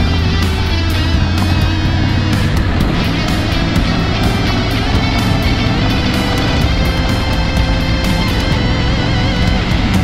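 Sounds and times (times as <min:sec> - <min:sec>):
drums and cymbals: 0:00.0 - 0:10.0
melodic music lines: 0:00.0 - 0:10.0.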